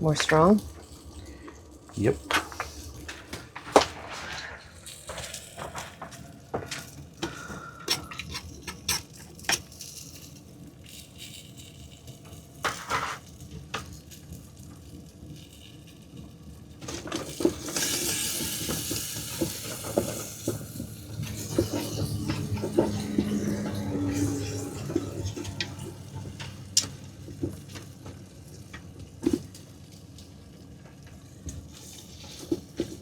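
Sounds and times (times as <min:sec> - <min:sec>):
onions and garlic sizzling: 0:00.0 - 0:33.0.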